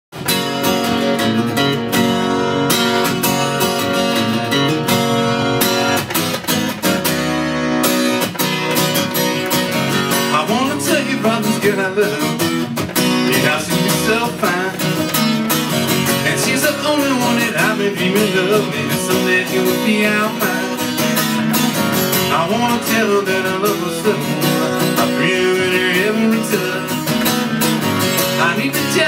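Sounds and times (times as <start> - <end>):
acoustic guitar strumming: 0.1 - 29.0.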